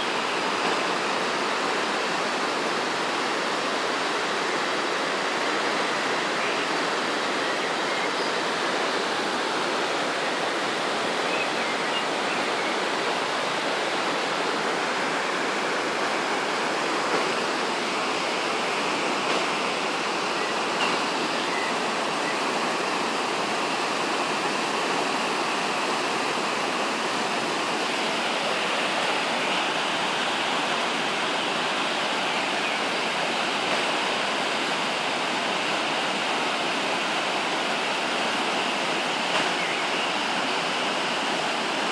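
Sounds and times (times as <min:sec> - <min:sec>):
river rushing over weir: 0:00.0 - 0:41.9.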